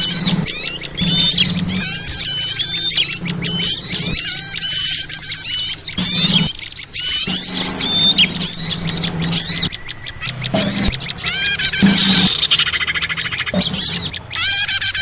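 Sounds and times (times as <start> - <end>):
songbirds chirping chorus: 0.0 - 15.0.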